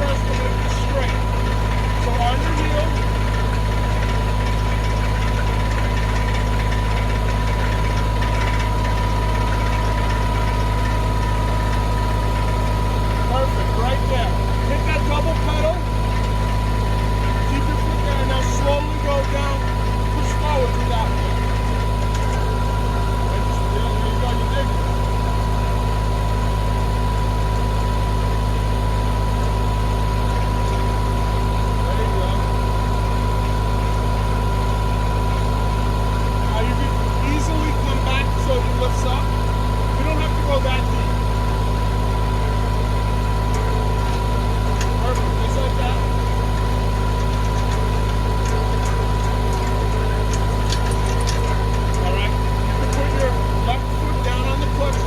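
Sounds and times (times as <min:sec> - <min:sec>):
auger boring into ground: 0:00.0 - 0:55.0
steady mechanical whine: 0:00.0 - 0:55.0
tractor diesel engine running: 0:00.0 - 0:55.0.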